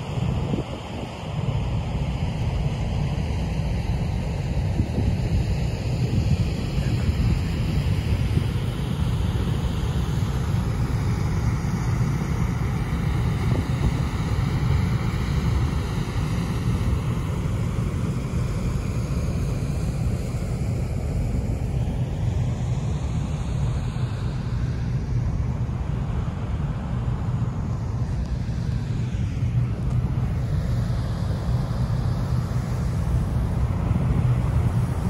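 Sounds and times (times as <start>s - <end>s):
wind buffeting microphone: 0.0s - 21.9s, 27.5s - 35.0s
churning boat wake: 0.0s - 35.0s.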